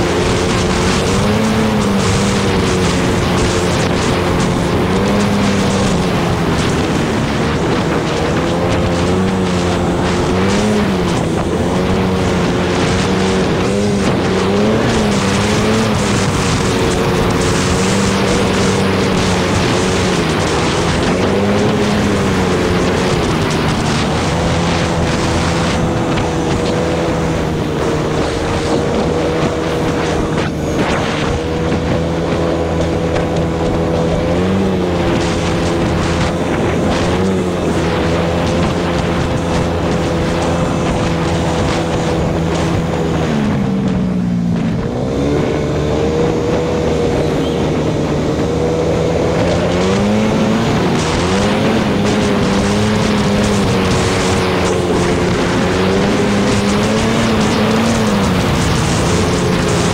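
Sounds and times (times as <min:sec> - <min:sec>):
atv engine running: 0:00.0 - 0:59.9
tyres on gravel and snow: 0:00.0 - 0:59.9
wind rush: 0:00.0 - 0:59.9.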